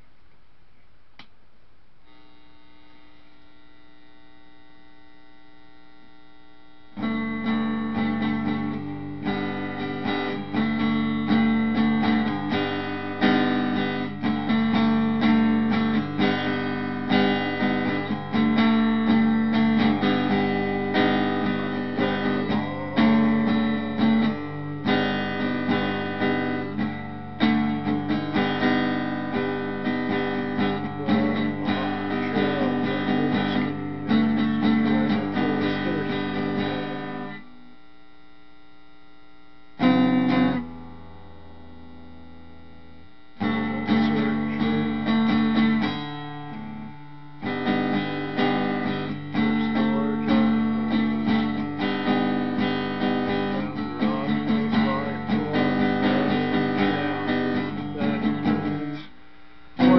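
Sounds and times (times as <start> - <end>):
faint steady tone: 0.0 - 59.9
guitar strumming chords: 2.0 - 59.9.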